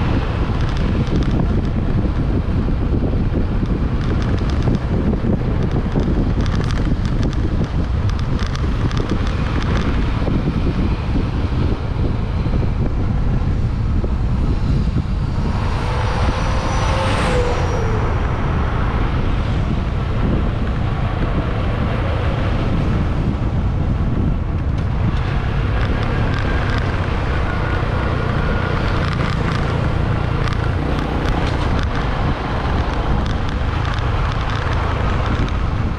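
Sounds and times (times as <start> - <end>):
motorbike engine rumble: 0.0 - 35.9
wind buffeting microphone: 0.0 - 35.9.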